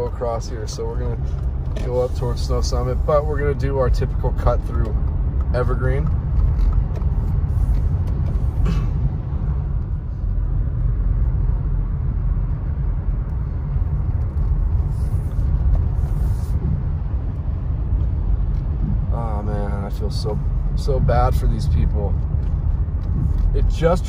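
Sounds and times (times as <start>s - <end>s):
car driving on wet road: 0.0s - 24.0s.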